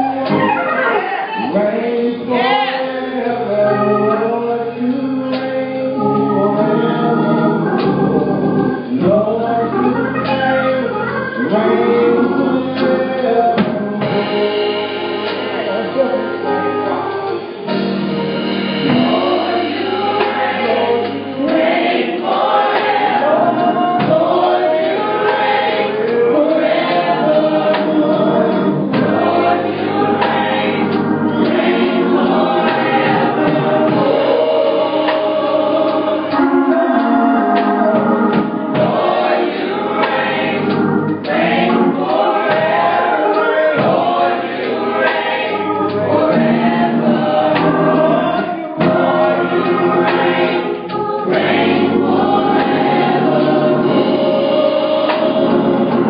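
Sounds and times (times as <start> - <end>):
gospel group singing: 0.0 - 56.0
steady low tones: 3.2 - 56.0.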